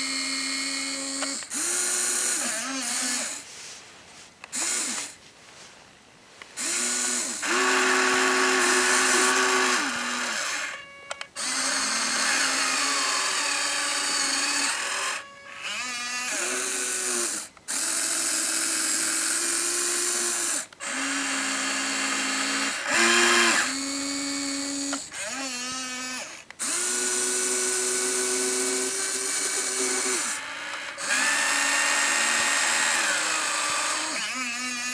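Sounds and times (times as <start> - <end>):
electric gear motors whining: 0.0 - 3.4, 4.4 - 5.2, 6.6 - 34.9.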